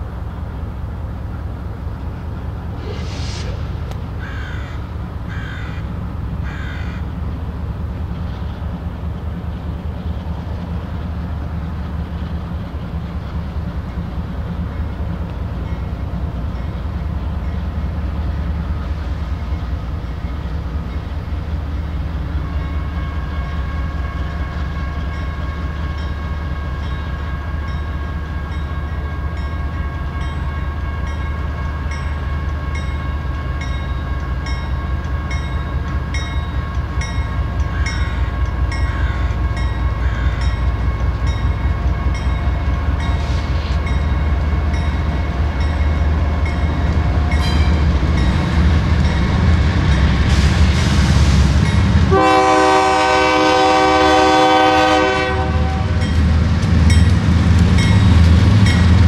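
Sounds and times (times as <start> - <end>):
diesel locomotive engines rumbling: 0.0 - 59.0.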